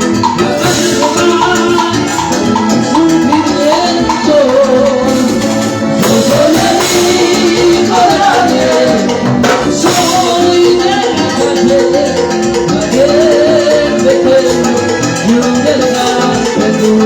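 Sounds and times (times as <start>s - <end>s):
salsa band playing: 0.0s - 17.0s.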